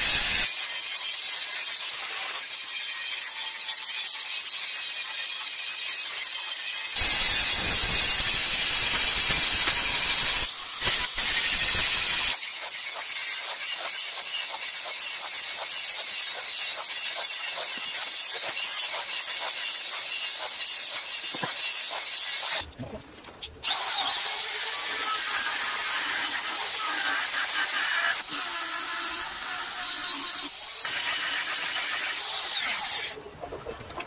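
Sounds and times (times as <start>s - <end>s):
die grinder high whine: 0.0s - 2.8s, 5.9s - 22.6s, 23.6s - 33.2s
angle grinder grinding steel: 0.0s - 22.7s, 23.6s - 33.2s.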